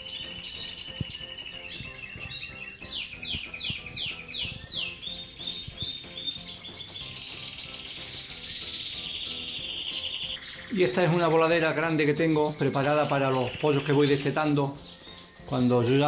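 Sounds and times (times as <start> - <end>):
canaries singing trills: 0.0 - 16.0.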